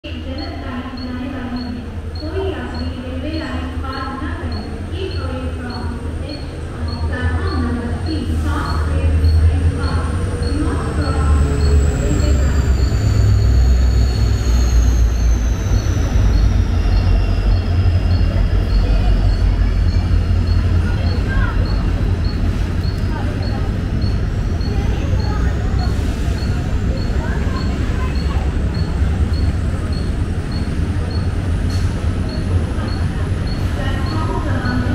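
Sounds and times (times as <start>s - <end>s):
electric train hum: 0.0s - 34.9s
faint high beeps: 0.1s - 34.9s.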